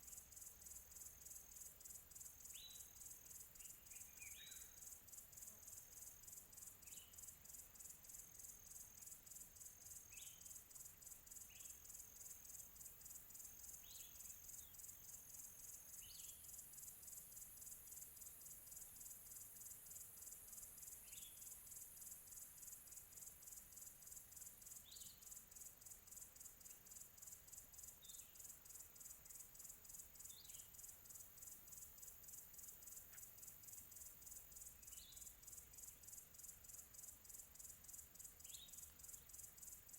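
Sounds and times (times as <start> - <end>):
insects trilling: 0.0 - 39.9
small bird chirping: 2.4 - 9.1, 9.8 - 16.9, 20.7 - 39.9.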